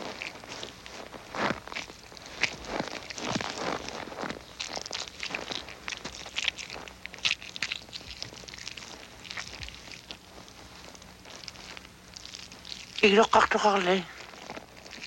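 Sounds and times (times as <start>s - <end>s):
crunching of carcass being cut: 0.0s - 15.0s
faint low hum: 0.0s - 15.0s.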